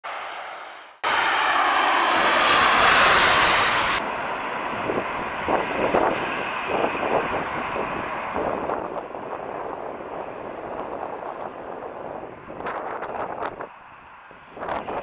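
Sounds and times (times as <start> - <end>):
crackling jet rumble: 0.0 - 15.0
jet engine roar: 0.0 - 15.0.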